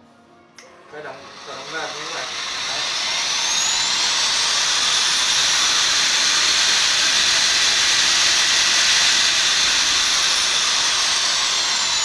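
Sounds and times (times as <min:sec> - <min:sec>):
drill motor high whirring: 0:00.9 - 0:12.0.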